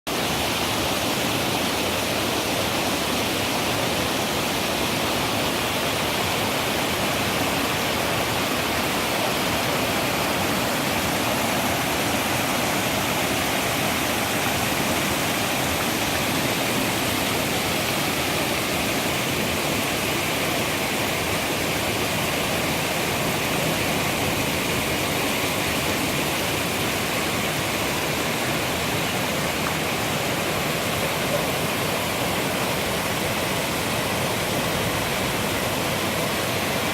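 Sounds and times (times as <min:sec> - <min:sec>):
water flowing: 0:00.1 - 0:36.9.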